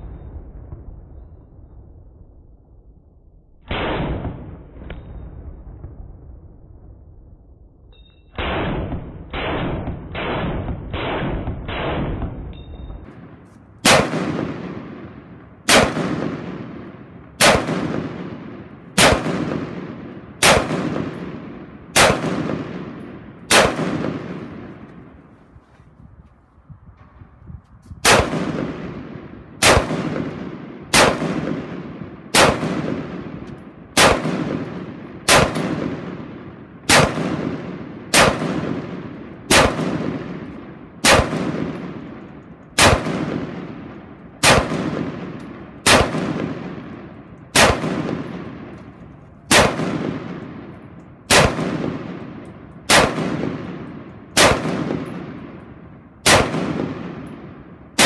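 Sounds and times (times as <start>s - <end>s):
rifle shots echoing: 3.7s - 6.0s, 8.4s - 25.6s, 28.0s - 58.0s.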